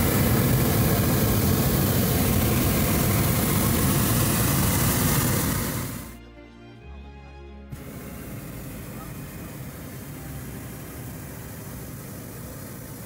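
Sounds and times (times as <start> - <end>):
propane burner firing: 0.0 - 6.2, 7.8 - 13.0.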